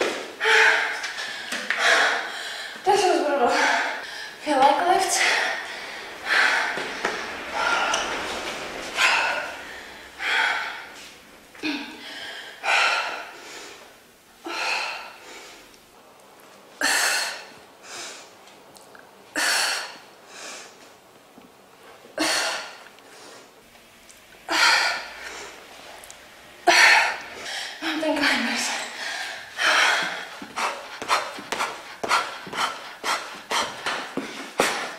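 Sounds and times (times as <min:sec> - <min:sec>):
woman breathing hard: 0:00.0 - 0:15.8, 0:16.8 - 0:18.4, 0:19.3 - 0:20.9, 0:24.5 - 0:26.0, 0:26.6 - 0:34.9.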